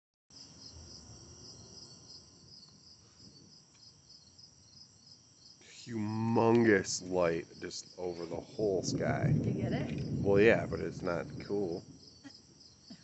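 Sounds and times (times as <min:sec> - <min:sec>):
crickets chirping: 0:00.3 - 0:13.0.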